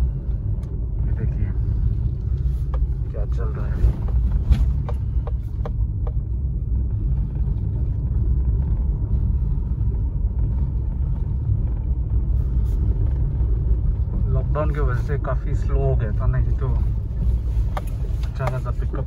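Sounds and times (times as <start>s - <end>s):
car driving on dirt road: 0.0s - 19.0s.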